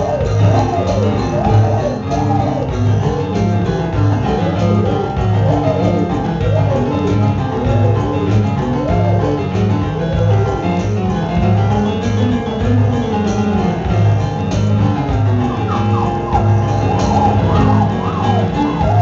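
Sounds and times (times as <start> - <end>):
pulsing low bass line: 0.0 - 19.0
swooping keyboard melody: 0.0 - 19.0.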